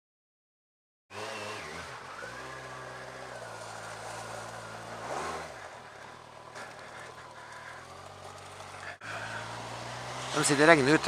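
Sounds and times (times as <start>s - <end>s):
motorcycle engine running: 1.1s - 11.0s.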